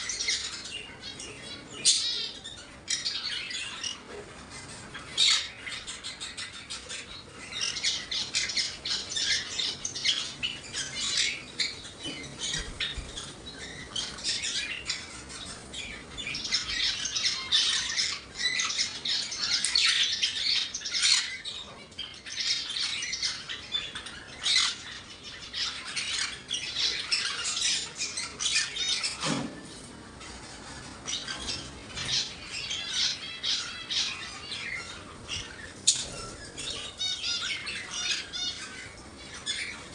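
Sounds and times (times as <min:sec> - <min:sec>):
birds chattering and squawking: 0:00.0 - 0:39.9.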